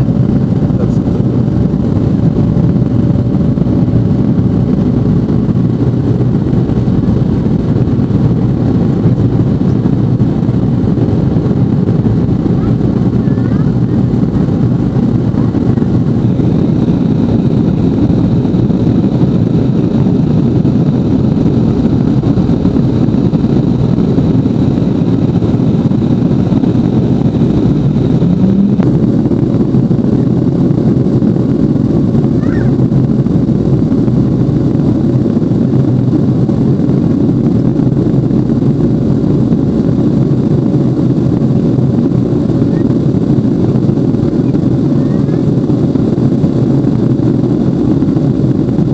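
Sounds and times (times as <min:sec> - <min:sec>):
jet engines in aircraft cabin: 0:00.0 - 0:48.9.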